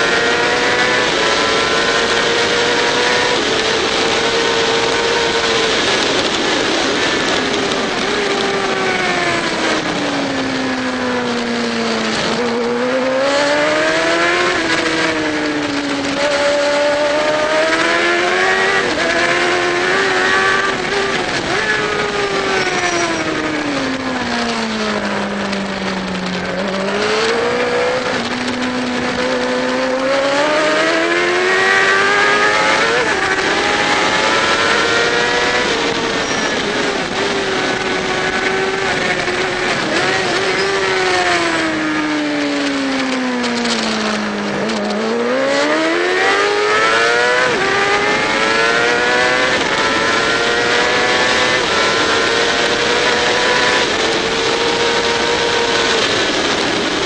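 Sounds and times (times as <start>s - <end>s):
racing motorcycle engine: 0.0s - 57.0s.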